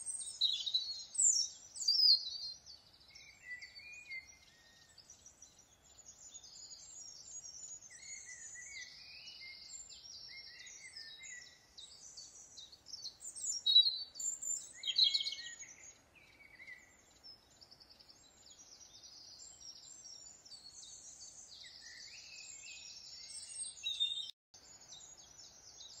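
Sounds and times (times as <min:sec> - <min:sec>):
birds chirping and trilling: 0:00.0 - 0:26.0.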